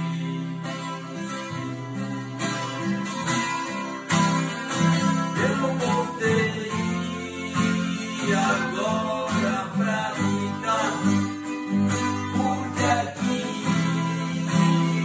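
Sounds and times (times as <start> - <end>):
acoustic guitars strumming: 0.0 - 15.0.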